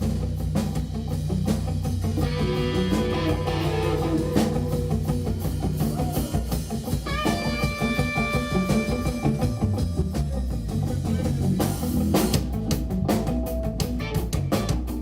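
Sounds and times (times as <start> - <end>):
bass: 0.0 - 15.0
drum kit: 0.0 - 15.0
electric guitar lead: 0.0 - 15.0.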